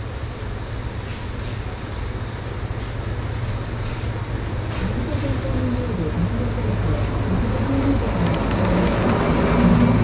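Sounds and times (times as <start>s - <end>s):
train rumbling: 0.0s - 10.0s
wheels clicking on rails: 0.0s - 10.0s.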